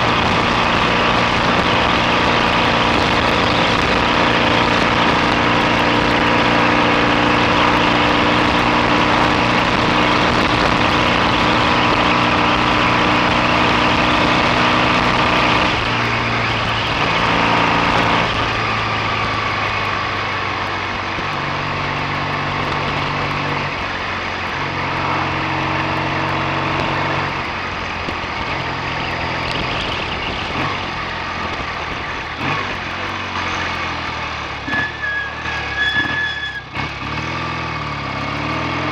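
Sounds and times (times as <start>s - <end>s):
motorcycle engine running: 0.0s - 35.2s, 36.6s - 38.9s
wind and road noise: 0.0s - 38.9s.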